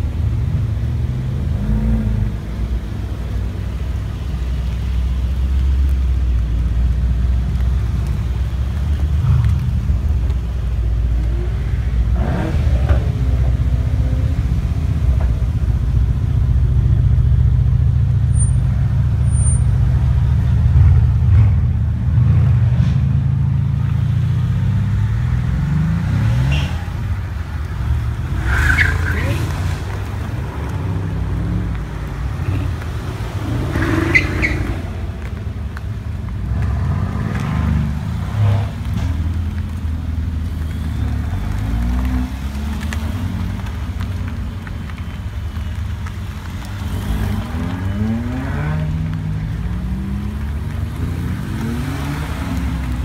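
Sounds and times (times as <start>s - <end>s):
car engines rumbling past: 0.0s - 53.0s.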